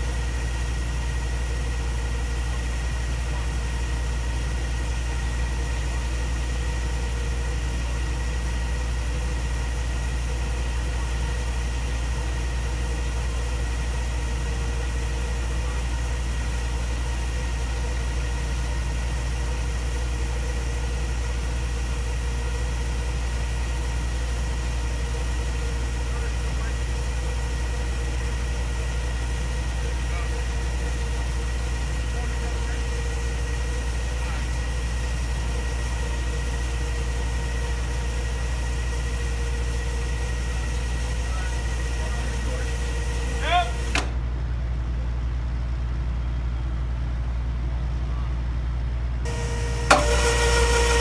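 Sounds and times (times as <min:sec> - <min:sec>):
constant high whine: 0:00.0 - 0:51.0
machinery low hum: 0:00.0 - 0:51.0.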